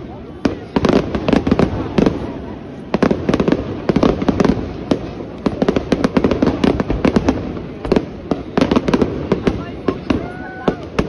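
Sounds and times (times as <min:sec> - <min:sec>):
fireworks bursting with bangs: 0:00.0 - 0:11.0
fireworks crackling: 0:00.0 - 0:11.0.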